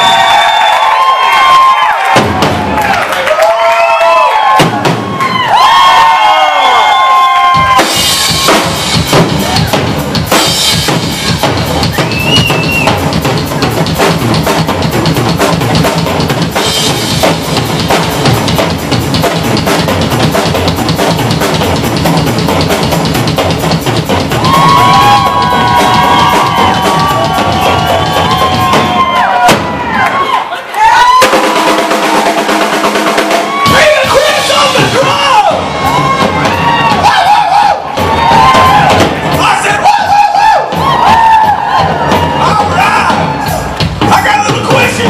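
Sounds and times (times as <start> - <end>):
rock drum solo: 1.5 - 3.1, 3.9 - 30.3, 31.0 - 45.0.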